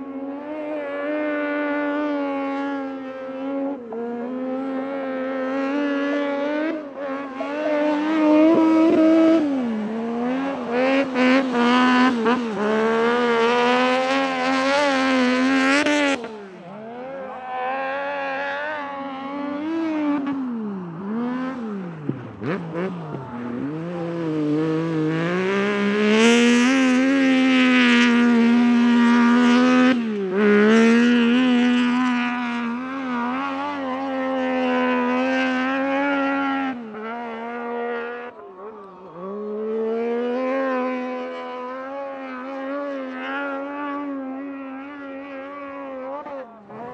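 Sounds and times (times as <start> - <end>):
engine revving high: 0.4 - 44.2.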